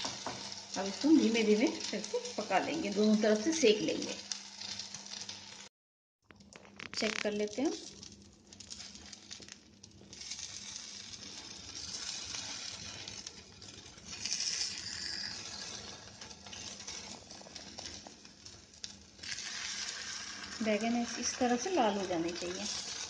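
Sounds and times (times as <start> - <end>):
wooden spatula scraping a pan: 0.0 - 5.6, 10.1 - 23.0
vegetable slices sizzling in oil: 0.0 - 5.7, 6.8 - 23.0.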